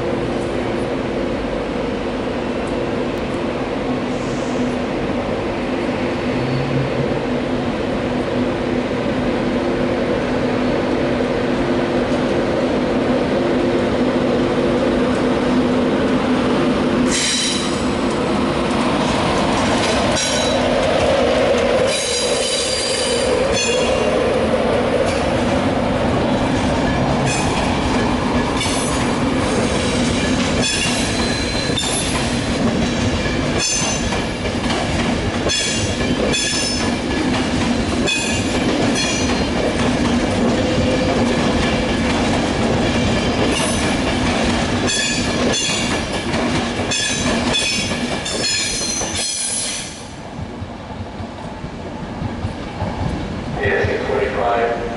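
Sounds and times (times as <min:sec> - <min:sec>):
electric train rolling past: 0:00.0 - 0:54.9.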